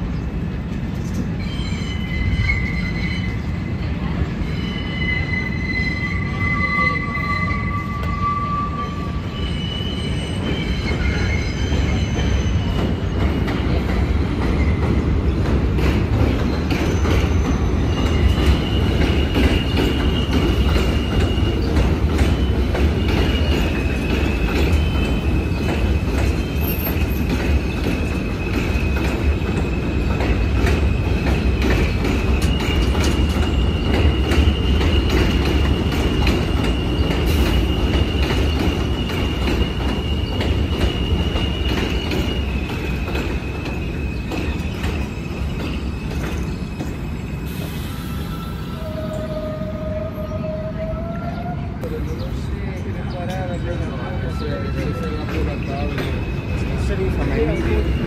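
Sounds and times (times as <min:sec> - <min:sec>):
train wheels squealing on rails: 0:00.0 - 0:58.0.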